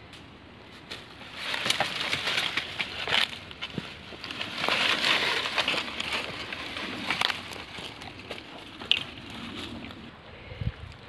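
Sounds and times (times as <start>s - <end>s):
dry leaves rustling and crackling: 0.7s - 10.1s.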